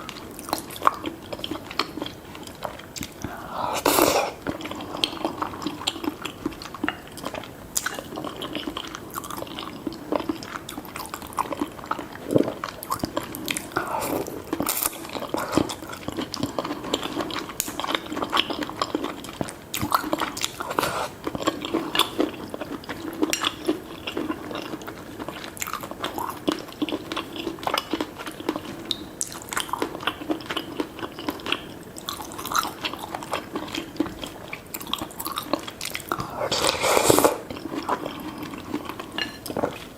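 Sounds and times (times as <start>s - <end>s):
chewing with wet smacks: 0.0s - 3.5s, 4.4s - 36.4s, 37.4s - 39.9s.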